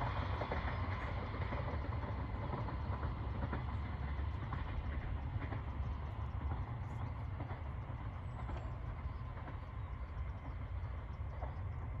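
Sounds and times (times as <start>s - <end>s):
electric railcar rumbling: 0.0s - 12.0s.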